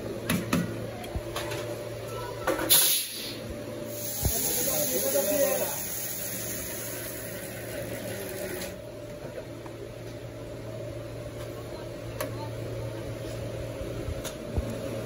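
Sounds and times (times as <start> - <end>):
hopper dryer electric hum: 0.0 - 15.0.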